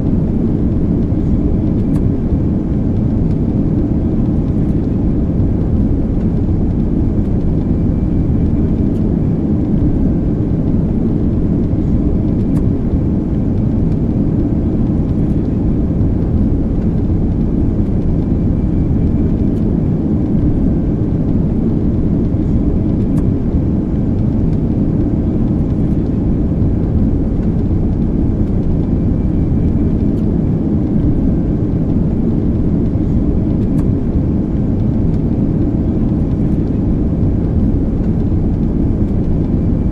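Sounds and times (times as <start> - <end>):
airplane cabin engine drone: 0.0 - 39.9
faint steady tones hum: 0.0 - 39.9.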